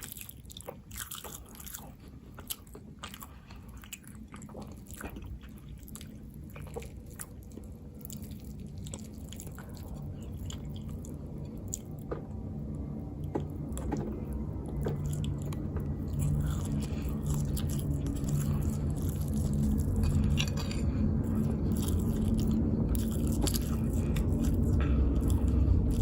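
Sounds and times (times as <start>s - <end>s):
chewing and biting food: 0.0s - 26.0s
low steady hum: 0.0s - 26.0s.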